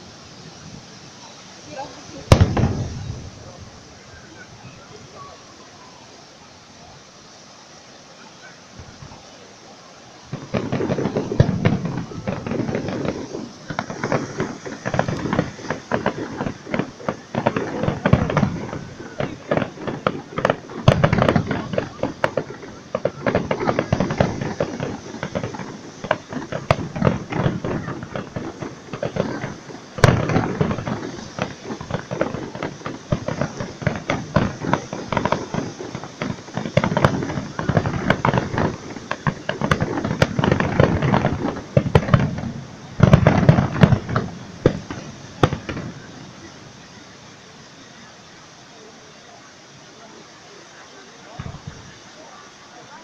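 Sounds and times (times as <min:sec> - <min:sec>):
fireworks bangs and crackling: 0:00.0 - 0:06.2, 0:10.2 - 0:53.0.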